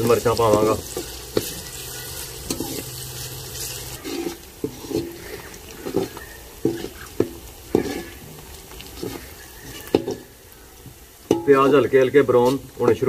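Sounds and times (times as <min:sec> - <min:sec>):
onions sizzling in oil: 0:00.0 - 0:13.0
spoon scraping a pan: 0:00.4 - 0:10.4, 0:11.2 - 0:13.0.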